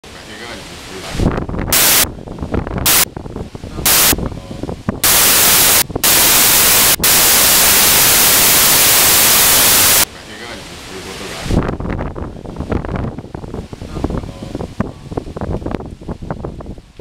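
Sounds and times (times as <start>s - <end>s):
wind gusts blasting microphone: 1.1s - 10.1s, 11.4s - 17.0s.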